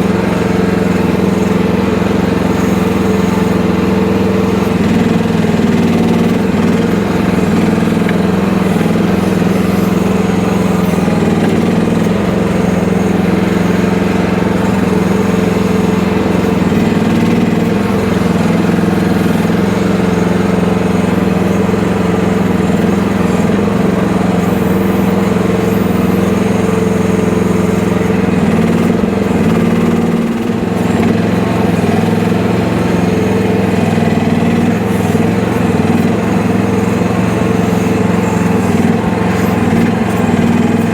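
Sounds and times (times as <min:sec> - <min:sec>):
mini excavator engine running: 0:00.0 - 0:40.9.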